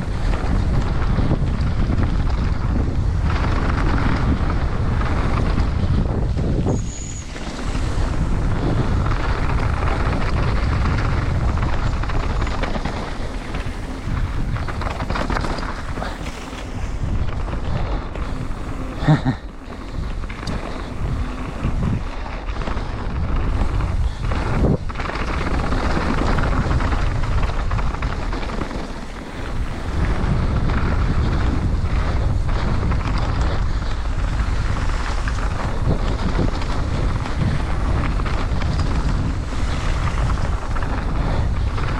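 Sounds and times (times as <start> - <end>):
mountain bike rumbling on trail: 0.0 - 41.9
wind buffeting microphone: 0.0 - 41.9.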